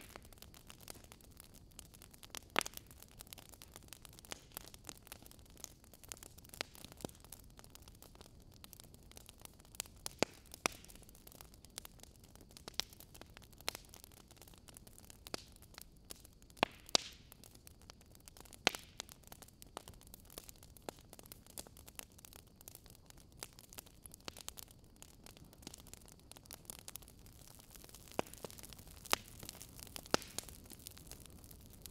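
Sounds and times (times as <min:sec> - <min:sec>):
fireplace crackling and popping: 0:00.0 - 0:31.9.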